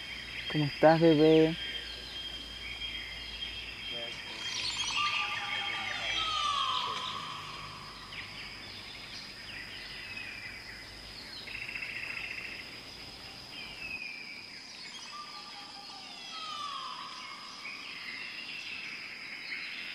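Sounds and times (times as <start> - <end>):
birds calling with whistled notes: 0.0 - 19.9
high insect drone: 0.0 - 19.9.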